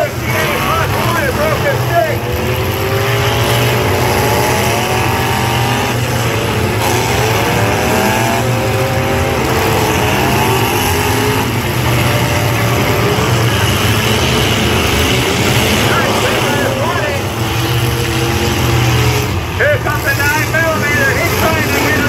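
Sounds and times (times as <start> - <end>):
low engine drone: 0.0 - 22.0
truck engines revving: 0.0 - 22.0.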